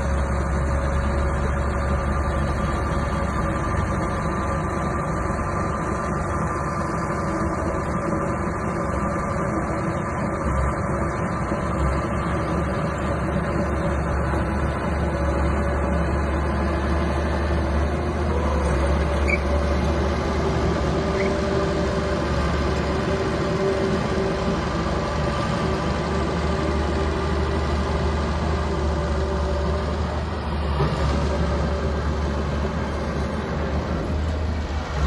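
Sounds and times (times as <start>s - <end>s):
bulldozer engine rumbling: 0.0s - 35.0s.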